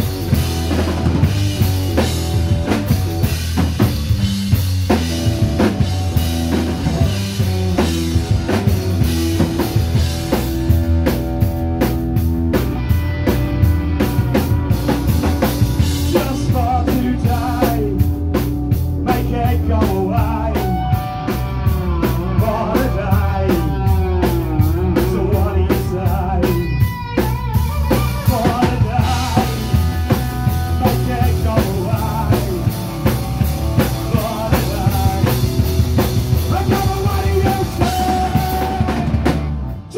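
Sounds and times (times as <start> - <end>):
live rock band playing: 0.0 - 39.9
wavering lead guitar line: 0.0 - 39.9.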